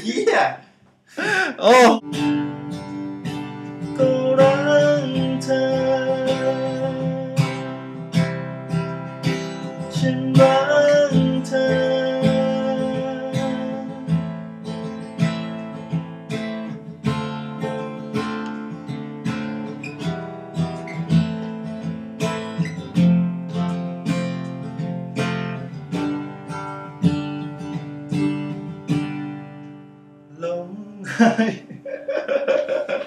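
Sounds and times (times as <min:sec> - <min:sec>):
acoustic guitar strumming: 0:01.2 - 0:33.0.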